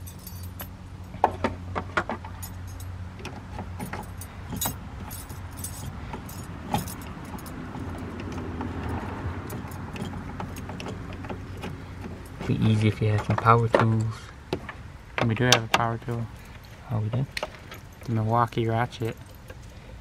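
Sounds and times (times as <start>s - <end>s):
metal tools clinking on metal: 0.0s - 1.2s, 3.8s - 14.1s, 15.2s - 19.9s
steady low hum: 0.0s - 20.0s.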